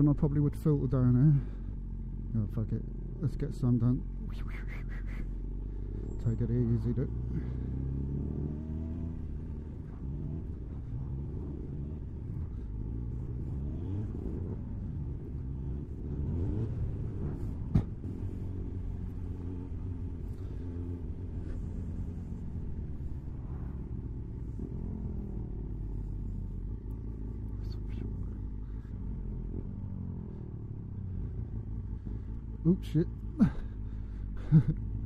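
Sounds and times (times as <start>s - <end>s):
motorcycle engine revving: 5.2s - 35.0s.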